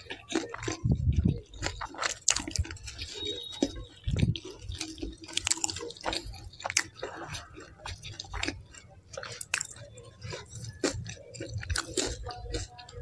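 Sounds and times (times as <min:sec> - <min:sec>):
wet chewing with lip smacks: 0:00.0 - 0:13.0.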